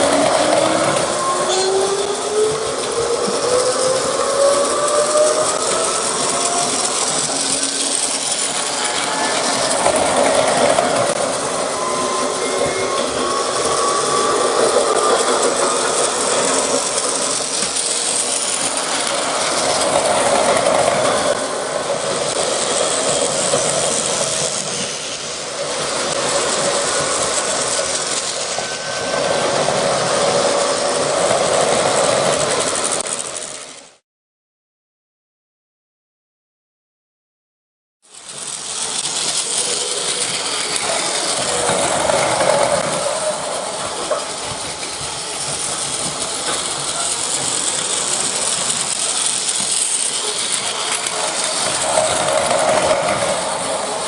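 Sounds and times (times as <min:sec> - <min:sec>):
electric train on rails: 0:00.0 - 0:34.0, 0:38.0 - 0:54.0
train motor whine rising: 0:00.0 - 0:34.0, 0:38.0 - 0:54.0.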